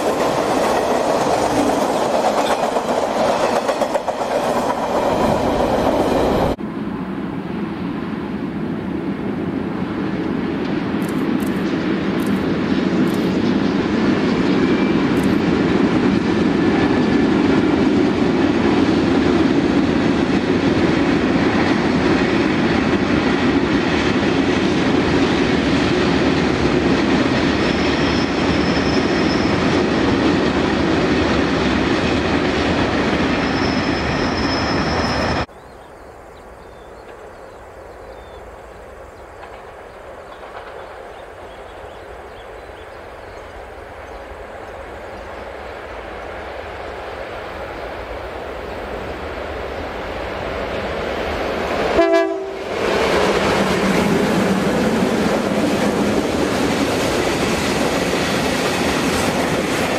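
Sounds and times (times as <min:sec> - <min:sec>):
train wheels rumbling on rail: 0:00.0 - 0:35.6, 0:36.6 - 0:59.9.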